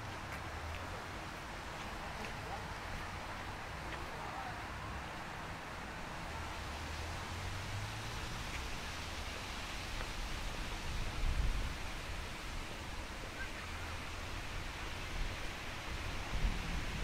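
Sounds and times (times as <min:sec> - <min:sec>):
outdoor ambient hiss: 0:00.0 - 0:17.0.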